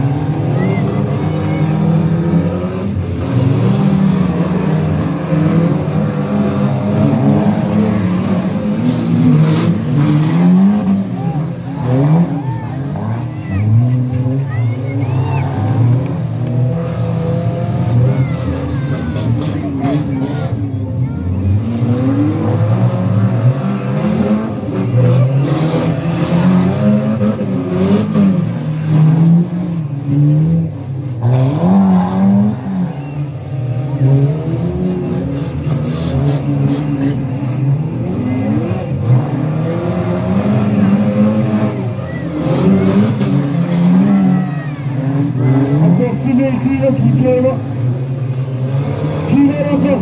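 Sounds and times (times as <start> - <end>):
stock car engines racing: 0.0 - 50.0.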